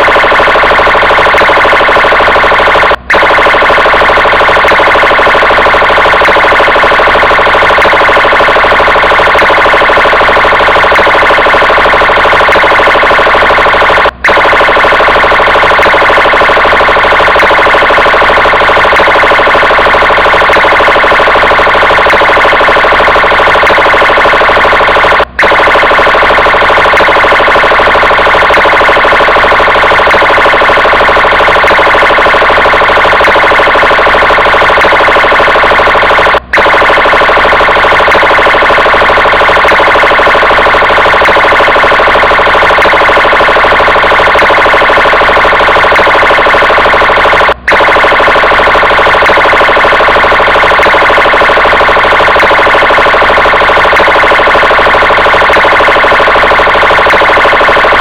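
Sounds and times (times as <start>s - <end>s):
police car siren: 0.0s - 58.0s.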